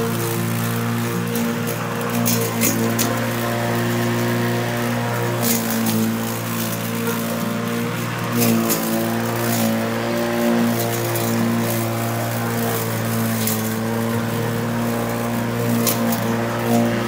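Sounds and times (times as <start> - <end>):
lawn mower humming: 0.0 - 17.0
stalks crackling as cut: 0.0 - 17.0.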